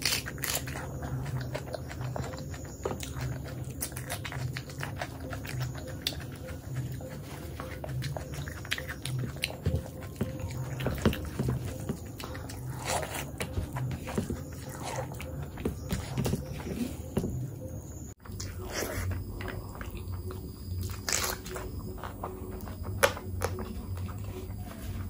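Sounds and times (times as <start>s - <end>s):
chewing and mouth smacks: 0.0s - 16.9s, 18.1s - 25.0s.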